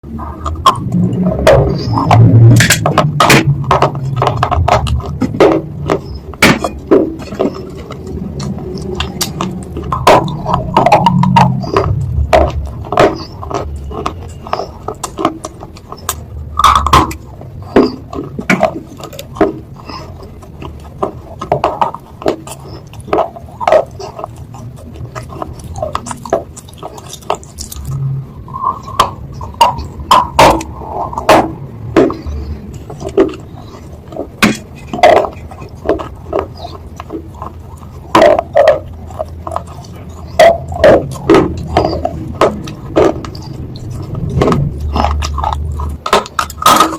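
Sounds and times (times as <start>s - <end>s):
wet chewing mouth sounds: 0.0s - 46.9s.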